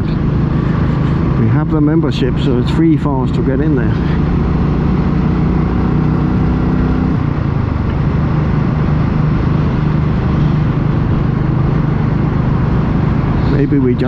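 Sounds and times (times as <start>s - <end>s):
motorcycle engine running: 0.0s - 14.0s
wind and road rush: 0.0s - 14.0s.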